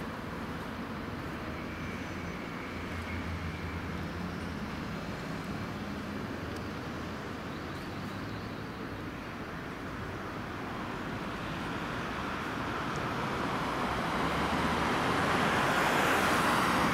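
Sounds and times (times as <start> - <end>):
diesel engines moving slowly: 0.0 - 16.9
road noise: 0.0 - 16.9.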